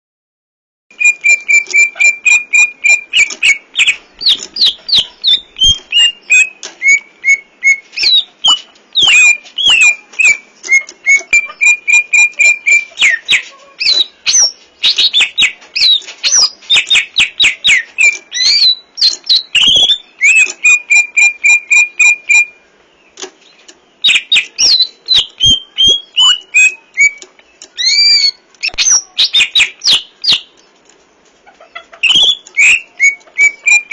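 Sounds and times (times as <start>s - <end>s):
bird singing sharp notes and whistles: 0.9s - 30.7s, 32.0s - 33.9s.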